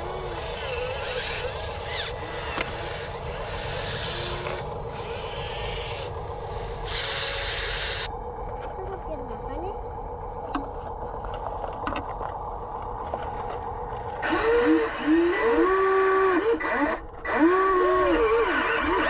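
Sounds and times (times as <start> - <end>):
model excavator motors whining: 0.0 - 19.0.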